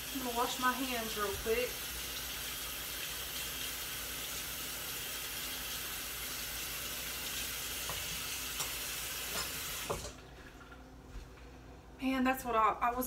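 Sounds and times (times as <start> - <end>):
faucet running: 0.0 - 10.7.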